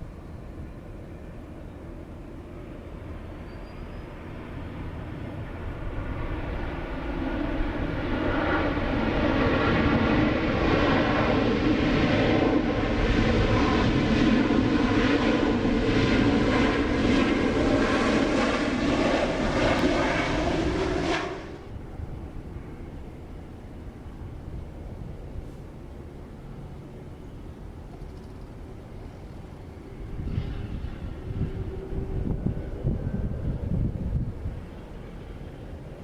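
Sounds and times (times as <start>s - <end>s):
airliner engines passing: 0.0s - 36.0s.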